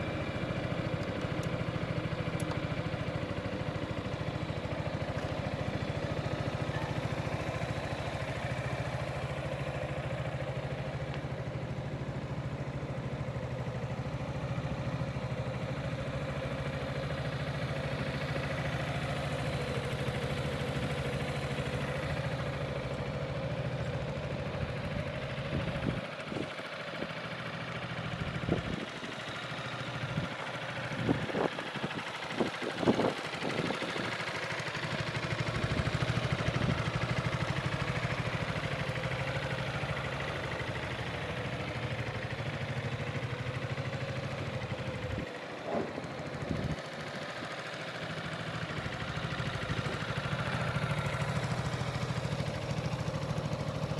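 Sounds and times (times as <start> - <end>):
scooter engine idling: 0.0 - 53.9.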